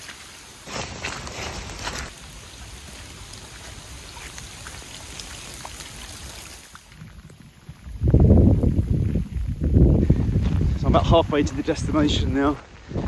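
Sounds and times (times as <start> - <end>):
raindrop ticks: 0.0 - 10.6
heavy rain falling: 0.0 - 11.9.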